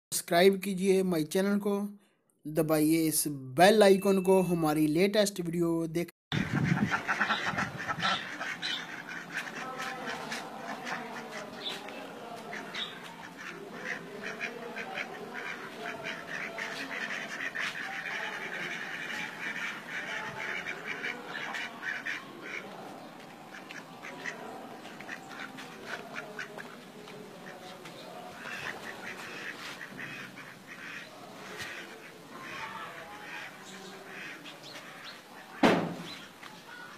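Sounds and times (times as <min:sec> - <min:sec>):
ducks quacking: 0:06.3 - 0:36.9.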